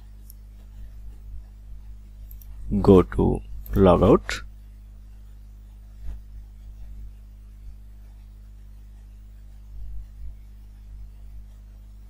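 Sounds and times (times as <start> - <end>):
microphone low hum: 0.0 - 12.0.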